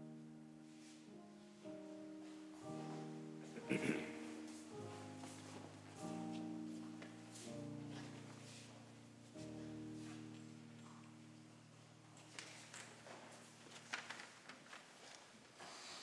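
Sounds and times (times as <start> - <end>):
soft instrumental chords: 0.0 - 13.6.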